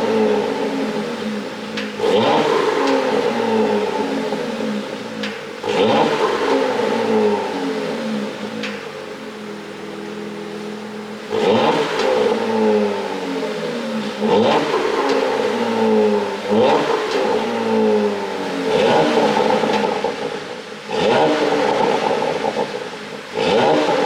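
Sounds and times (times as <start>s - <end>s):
car engine revving: 0.0s - 24.0s
exhaust crackles and pops: 0.0s - 24.0s.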